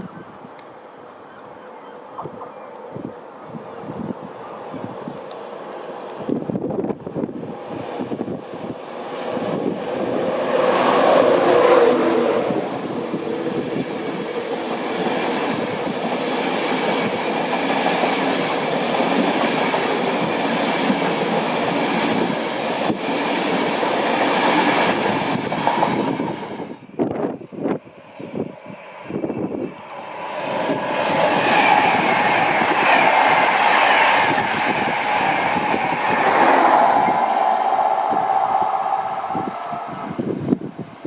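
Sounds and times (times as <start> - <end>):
train passing at speed: 0.0 - 41.0.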